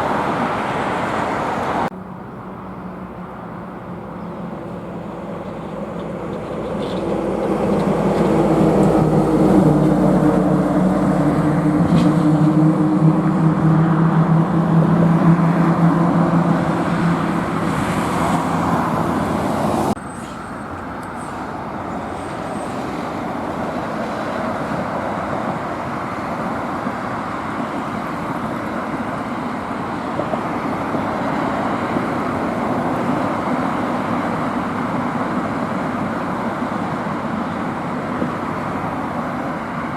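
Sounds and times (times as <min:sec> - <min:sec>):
road traffic noise: 0:00.0 - 0:39.9
truck engine passing close: 0:00.0 - 0:39.9.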